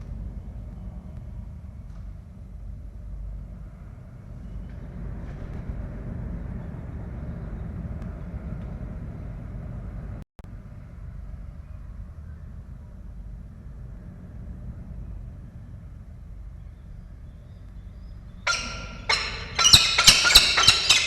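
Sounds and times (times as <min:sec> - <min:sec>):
low rumble of outdoor air: 0:00.0 - 0:21.0.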